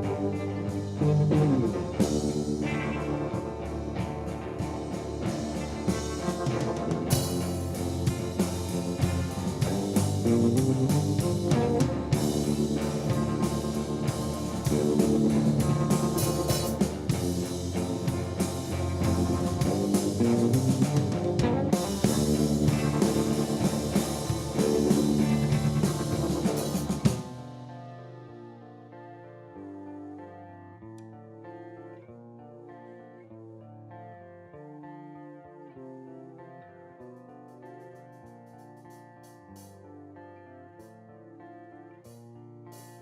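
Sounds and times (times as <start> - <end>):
drums: 0.0 - 30.4, 36.3 - 43.0
bass: 0.0 - 35.0
electric guitar: 0.0 - 43.0.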